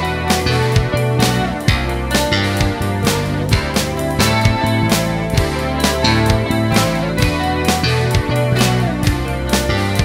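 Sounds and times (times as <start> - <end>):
held bass notes: 0.0 - 10.0
music with steady beat: 0.0 - 10.0.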